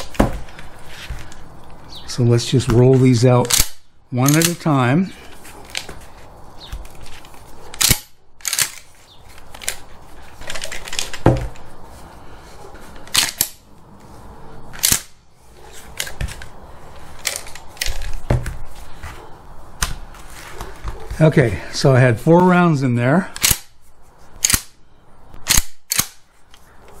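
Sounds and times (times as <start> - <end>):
gun handling noise: 0.0 - 1.8, 2.7 - 14.1, 14.7 - 21.1, 23.3 - 24.8, 25.5 - 27.0.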